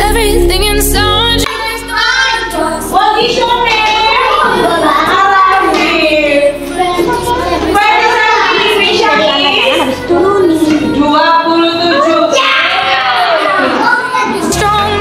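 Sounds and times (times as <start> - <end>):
woman singing: 0.0 - 12.4, 14.3 - 15.0
children singing: 1.4 - 15.0.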